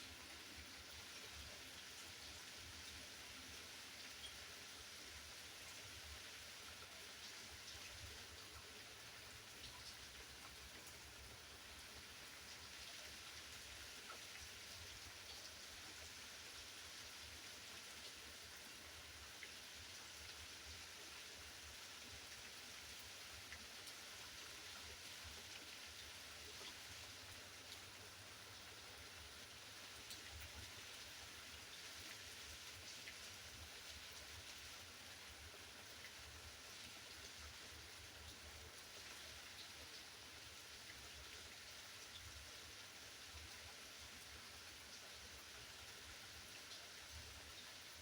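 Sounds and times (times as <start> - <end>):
faint rain falling: 0.0 - 48.0.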